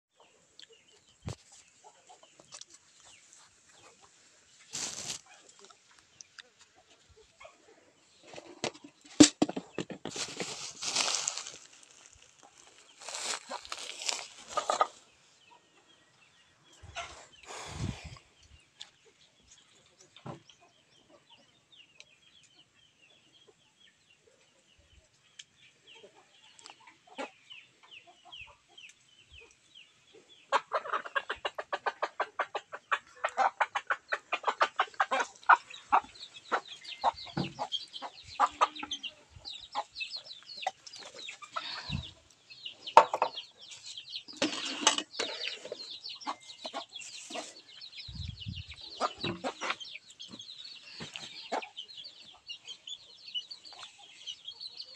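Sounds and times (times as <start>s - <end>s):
chickens clucking: 0.1s - 54.9s.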